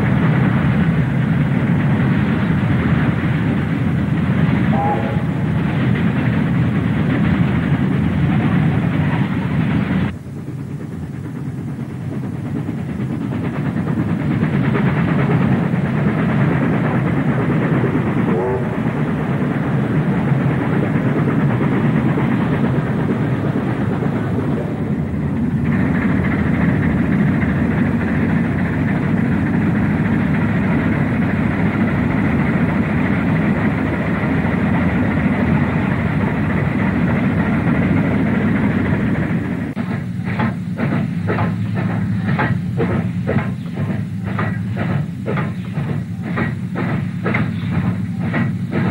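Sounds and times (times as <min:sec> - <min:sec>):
steam locomotive passing: 0:00.0 - 0:48.9.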